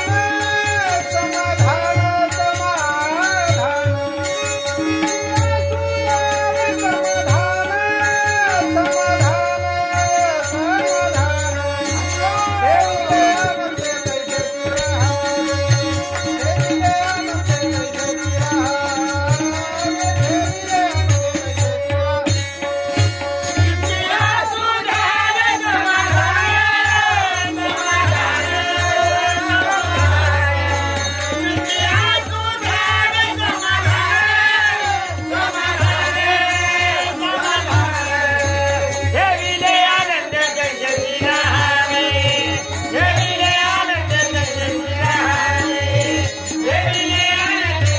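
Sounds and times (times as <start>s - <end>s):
voices singing devotional song: 0.0s - 47.9s.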